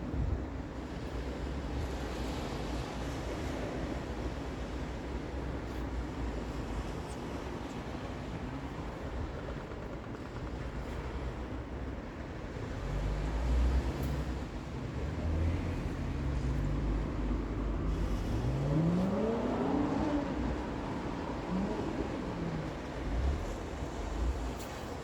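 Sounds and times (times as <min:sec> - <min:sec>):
vehicle low rumble: 0:00.0 - 0:25.0.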